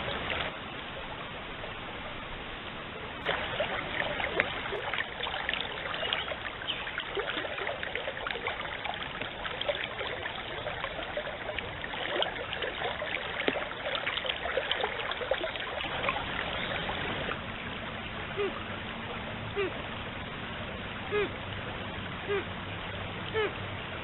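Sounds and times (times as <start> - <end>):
stream water babbling: 0.0 - 24.0.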